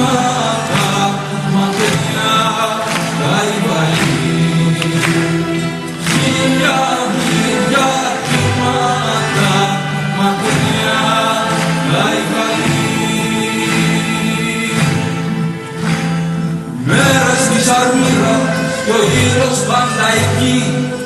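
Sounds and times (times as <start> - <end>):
song with singing voices: 0.0 - 21.0.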